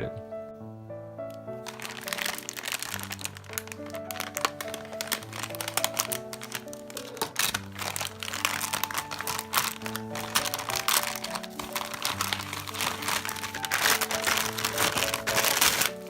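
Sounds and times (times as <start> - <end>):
piano music: 0.0 - 16.0
packaging crinkling and tearing: 1.3 - 16.0.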